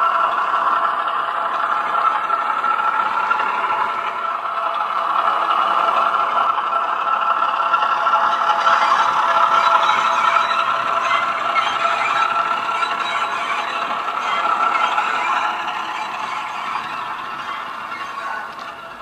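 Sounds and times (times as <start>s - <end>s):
model diesel engine sound from speaker: 0.0s - 19.0s
model train wheels on track: 0.0s - 19.0s.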